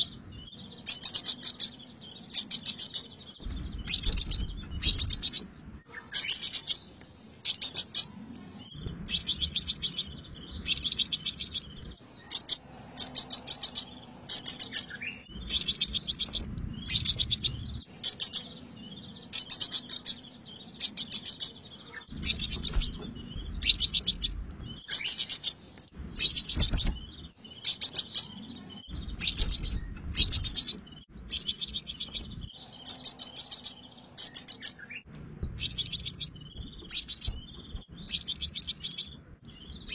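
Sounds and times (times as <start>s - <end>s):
bird chipping trills: 0.0s - 39.9s.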